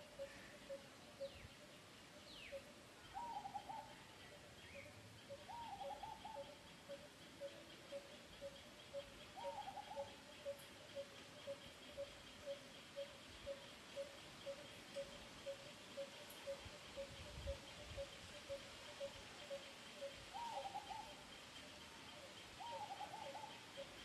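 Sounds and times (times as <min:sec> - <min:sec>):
faint birdsong: 0:00.0 - 0:24.0.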